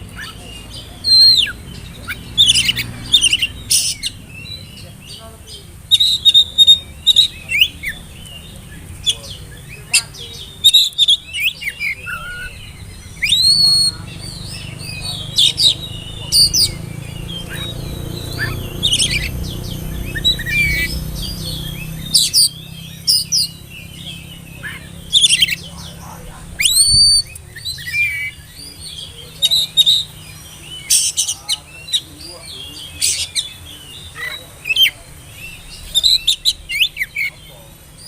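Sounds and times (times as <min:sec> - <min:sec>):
bird singing whistled notes: 0:00.0 - 0:05.2, 0:05.9 - 0:38.0.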